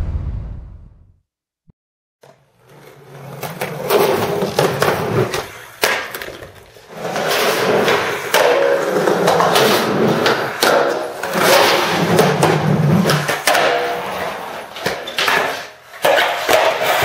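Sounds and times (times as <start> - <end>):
skateboard wheels rolling on concrete: 2.2 - 17.0.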